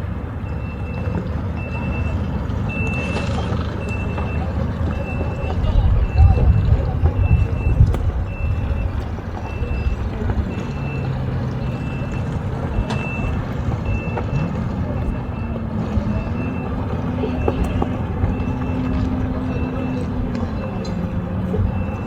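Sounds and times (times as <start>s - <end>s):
low engine rumble: 0.0s - 22.0s
reversing alarm beeping: 0.3s - 22.0s.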